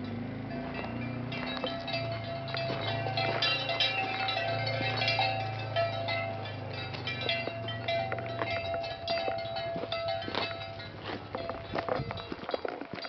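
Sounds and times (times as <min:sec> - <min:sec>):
herd bells clanking: 0:00.0 - 0:13.0.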